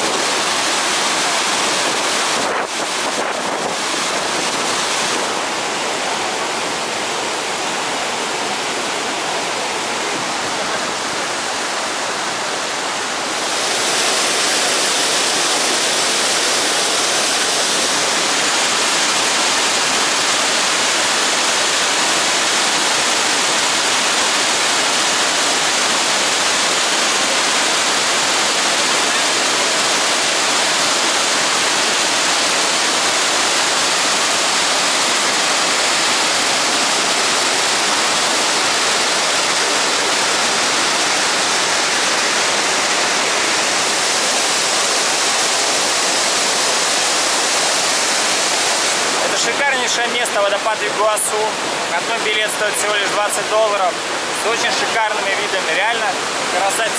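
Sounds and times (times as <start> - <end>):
waterfall roaring: 0.0 - 56.9.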